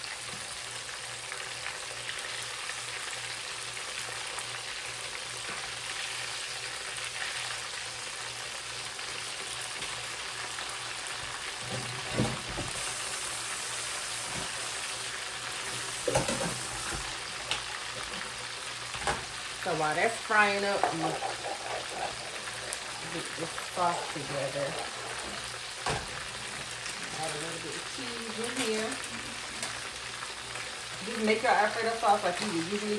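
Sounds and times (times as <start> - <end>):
chicken sizzling in hot oil: 0.0 - 32.9.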